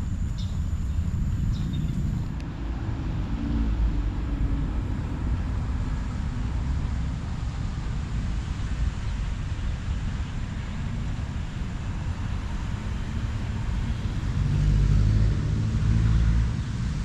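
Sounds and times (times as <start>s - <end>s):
faint wavering whine: 0.0s - 16.4s
vehicle rumble in motion: 0.0s - 17.0s.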